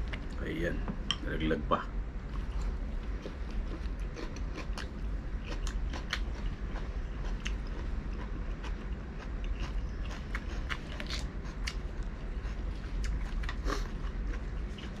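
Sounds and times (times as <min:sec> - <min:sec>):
person chewing food: 0:02.2 - 0:15.0.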